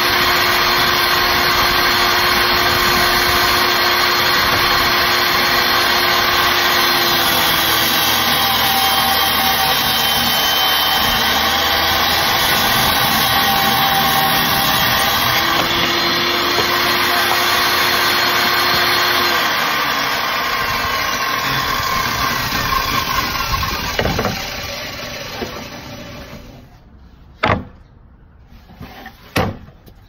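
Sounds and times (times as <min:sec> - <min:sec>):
circular saw whining: 0:00.0 - 0:26.8.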